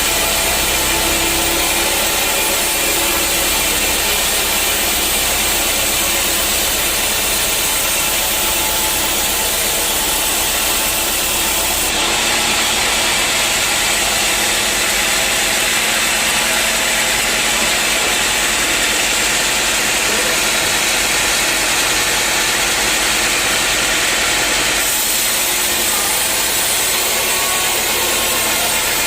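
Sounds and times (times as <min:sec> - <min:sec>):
saw cutting: 0:00.0 - 0:29.0
sawmill engine running: 0:00.0 - 0:29.0.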